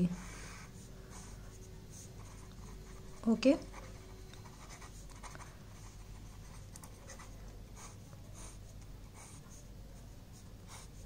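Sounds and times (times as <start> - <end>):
pen scratching on paper: 0.6 - 9.7, 10.3 - 11.0.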